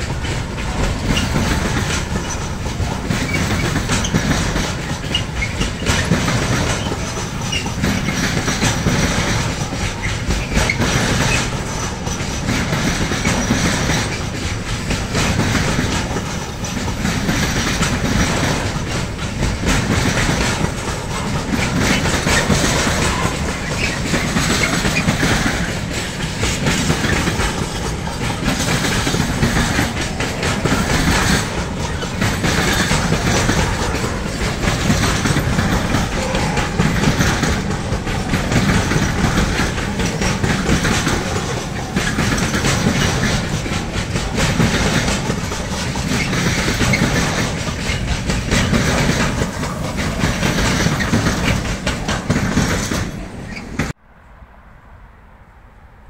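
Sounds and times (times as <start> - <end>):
freight train wagons rolling: 0.0 - 54.0
wheels clicking over rail joints: 0.0 - 54.0.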